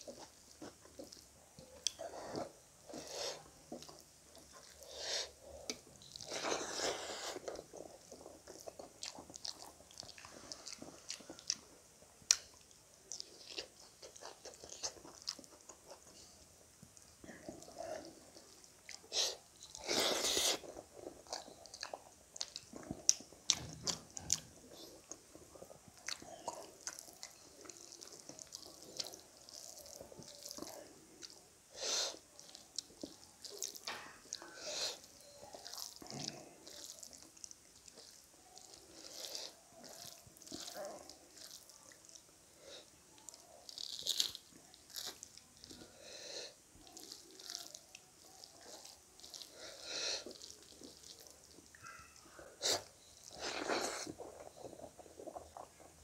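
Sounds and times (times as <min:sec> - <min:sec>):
rice and curry squelching: 0:00.0 - 0:56.0.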